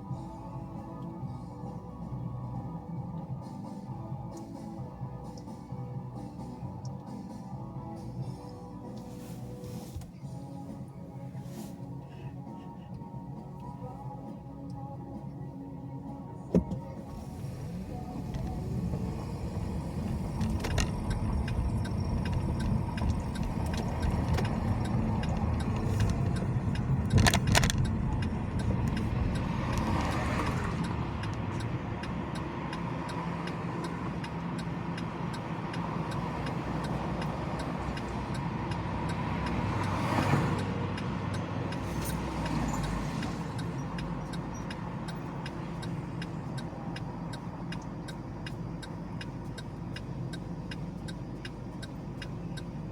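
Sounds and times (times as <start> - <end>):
car road and engine rumble: 0.0 - 52.9.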